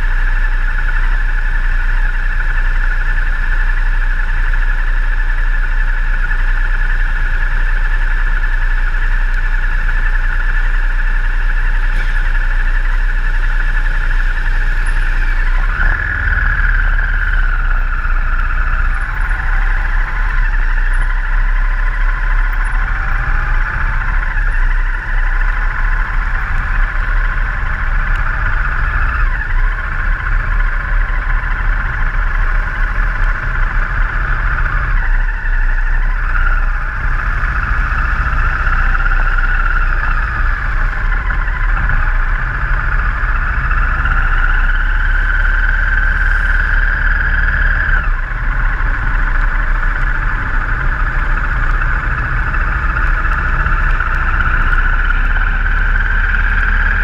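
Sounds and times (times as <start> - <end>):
motorcycle engine revving: 0.0 - 57.0
tyres on wet road: 0.0 - 57.0.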